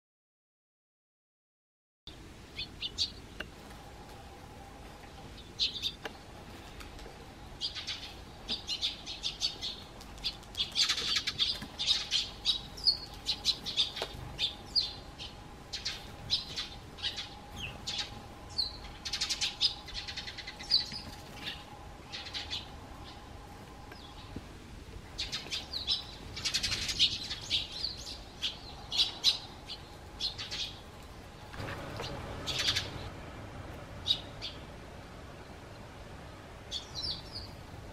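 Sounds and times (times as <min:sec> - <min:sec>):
sparrows chirping: 0:02.1 - 0:03.8, 0:04.8 - 0:24.4, 0:25.0 - 0:33.1, 0:34.0 - 0:34.8, 0:36.6 - 0:37.8.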